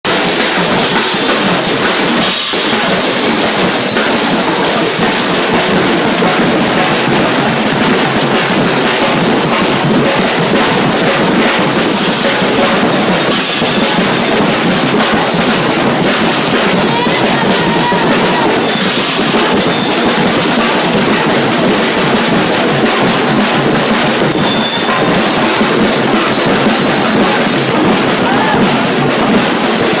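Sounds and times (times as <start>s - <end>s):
percussion group drumming: 0.0s - 30.0s.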